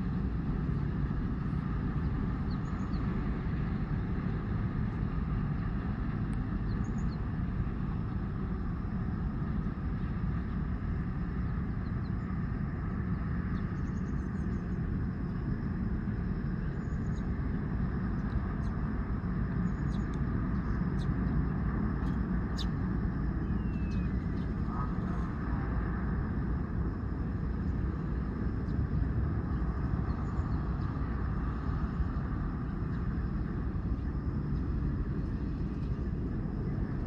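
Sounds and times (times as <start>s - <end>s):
low engine rumble: 0.0s - 37.0s.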